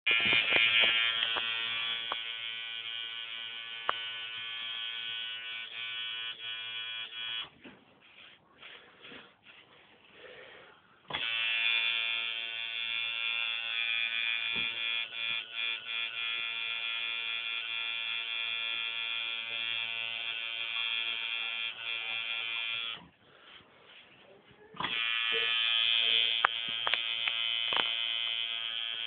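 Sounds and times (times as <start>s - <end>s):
tattoo machine buzzing: 0.1s - 8.4s, 11.1s - 23.2s, 24.8s - 29.0s.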